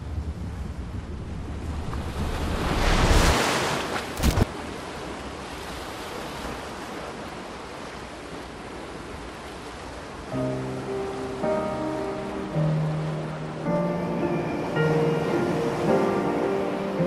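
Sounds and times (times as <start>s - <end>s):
wind: 0.0s - 17.0s
sea surf washing on beach: 0.7s - 17.0s.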